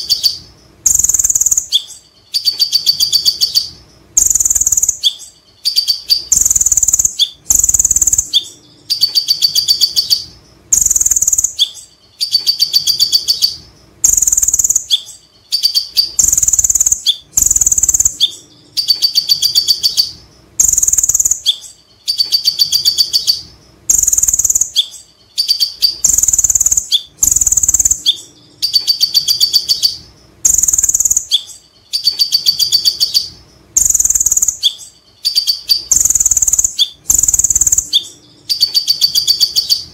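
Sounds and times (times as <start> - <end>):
sunbird singing whistles and trills: 0.0 - 39.9.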